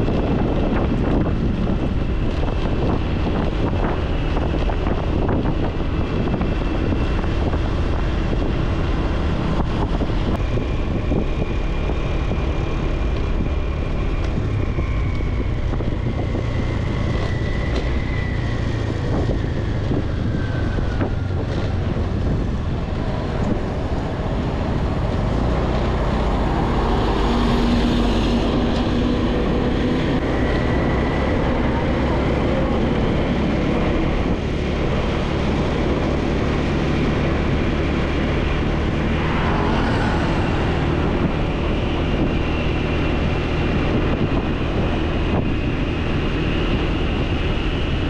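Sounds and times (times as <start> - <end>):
road noise: 0.0 - 48.0
wind buffeting microphone: 0.0 - 48.0.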